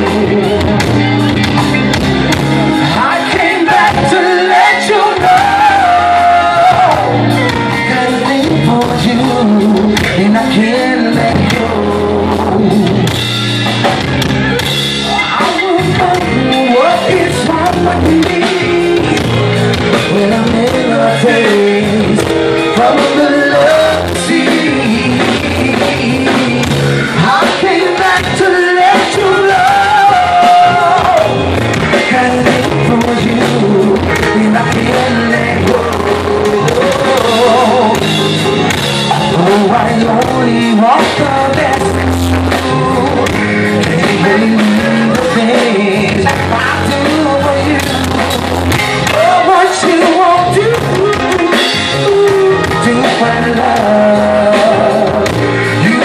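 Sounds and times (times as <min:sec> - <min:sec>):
man singing: 0:00.0 - 0:13.3, 0:15.1 - 0:56.0
blues-rock band playing: 0:00.0 - 0:56.0.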